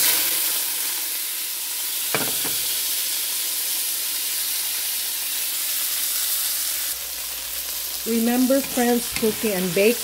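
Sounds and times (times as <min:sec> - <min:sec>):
aromatics sizzling in hot oil: 0:00.0 - 0:10.0.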